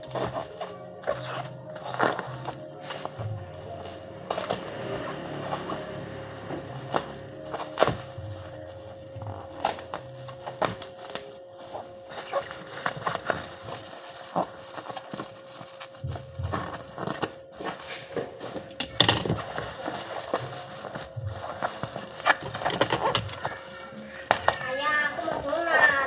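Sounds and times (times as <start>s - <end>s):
faint hum: 0.0s - 26.0s
objects being handled: 0.0s - 26.0s.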